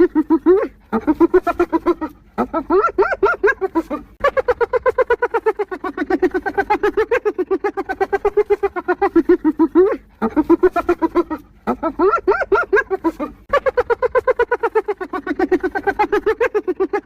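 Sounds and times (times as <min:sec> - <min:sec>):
hyena laughing: 0:00.0 - 0:17.0.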